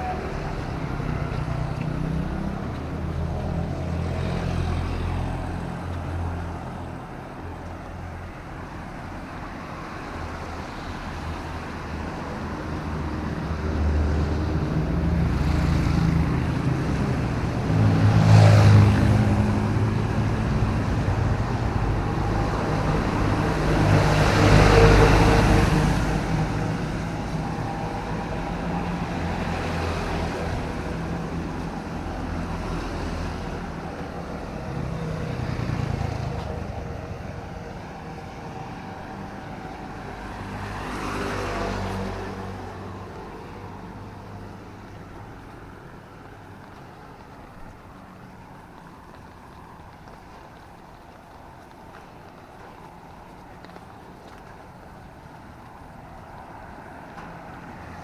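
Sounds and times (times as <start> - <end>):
drizzling rain: 0.0 - 58.0
road traffic: 0.0 - 58.0
vehicles passing close: 0.0 - 58.0.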